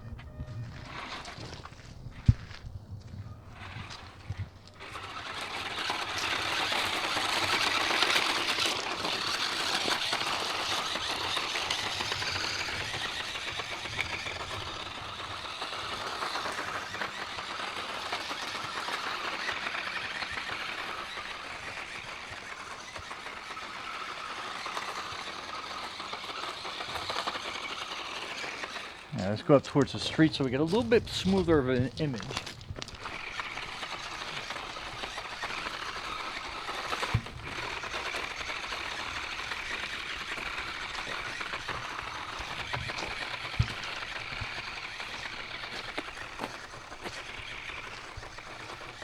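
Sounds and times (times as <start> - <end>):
toy truck chassis rattling: 0.6 - 2.5, 3.5 - 49.0
electric motor whirring: 3.5 - 49.0.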